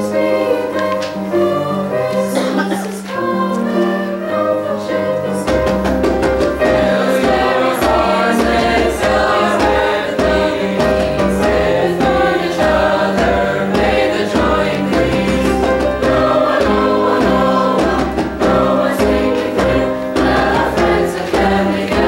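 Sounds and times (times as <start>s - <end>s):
choir singing in parts: 0.0s - 22.0s
instrumental accompaniment: 0.0s - 22.0s.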